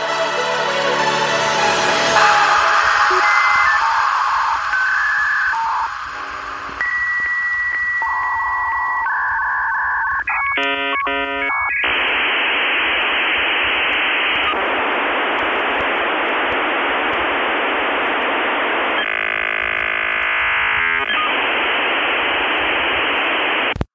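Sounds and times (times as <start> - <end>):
modem buzzing tone: 2.2 - 23.9
modem data hiss: 2.2 - 23.9.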